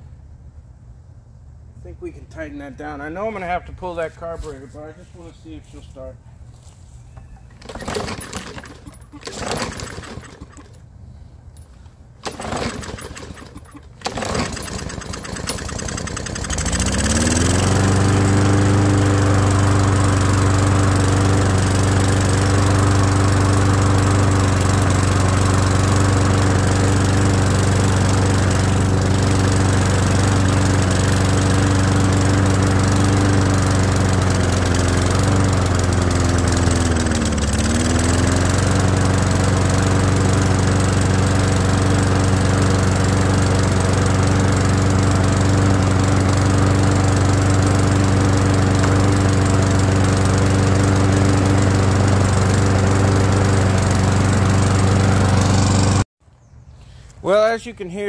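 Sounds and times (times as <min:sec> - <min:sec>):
push mower engine running: 0:07.4 - 0:10.9, 0:12.2 - 0:56.1.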